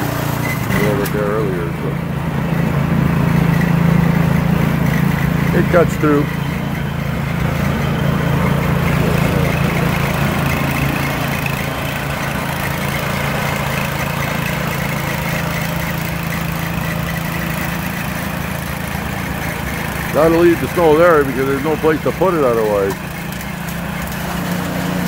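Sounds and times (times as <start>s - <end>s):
snowblower engine running: 0.0s - 25.0s.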